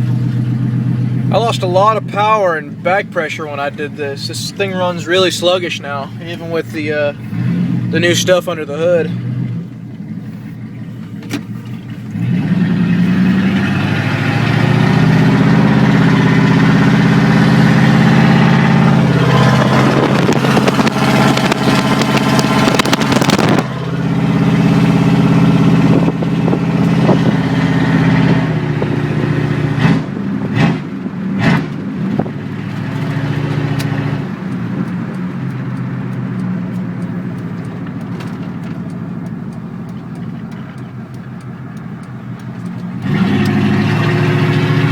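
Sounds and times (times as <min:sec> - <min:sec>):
engine revving blips: 0:00.0 - 0:44.9
loud engine accelerating: 0:00.0 - 0:44.9.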